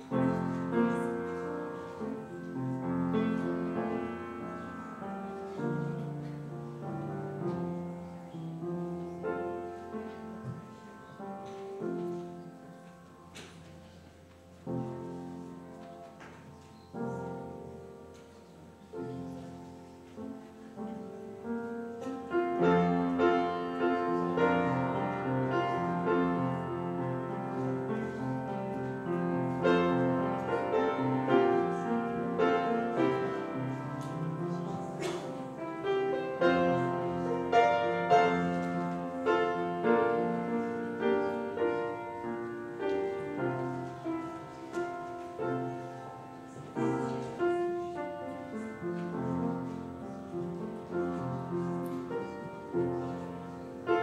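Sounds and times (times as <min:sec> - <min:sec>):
slow piano piece: 0:00.0 - 0:54.0.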